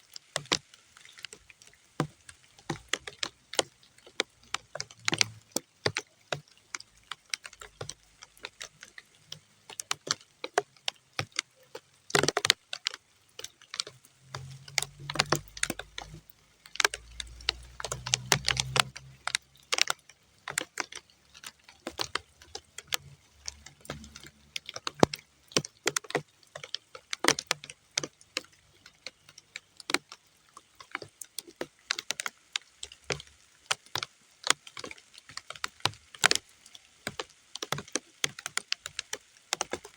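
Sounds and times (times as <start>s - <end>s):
raindrops dripping on mud: 0.0s - 39.9s.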